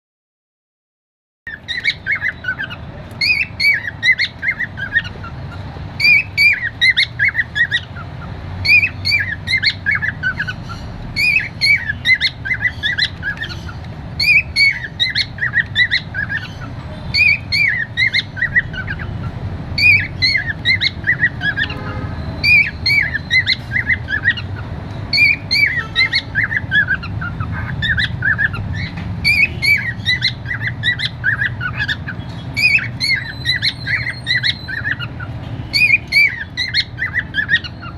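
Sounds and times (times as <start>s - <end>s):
cockatiel chirping: 1.5s - 37.9s.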